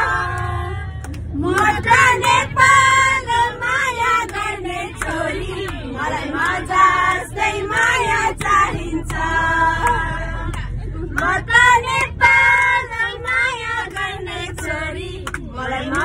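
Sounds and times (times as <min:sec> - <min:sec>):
bus engine rumble: 0:00.0 - 0:16.0
people singing together: 0:00.0 - 0:16.0.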